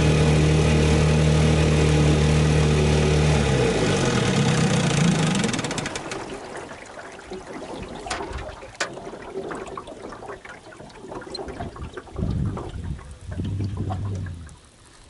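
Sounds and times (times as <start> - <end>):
water splashing along boat hull: 1.2 - 15.0.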